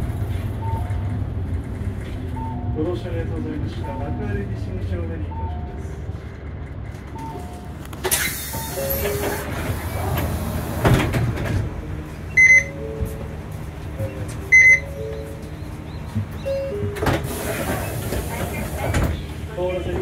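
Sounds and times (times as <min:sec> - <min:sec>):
bus engine rumble: 0:00.0 - 0:20.0.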